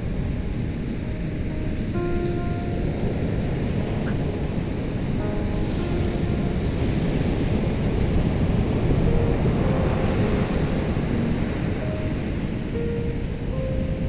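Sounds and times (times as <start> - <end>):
ocean waves on shore: 0.0 - 14.0.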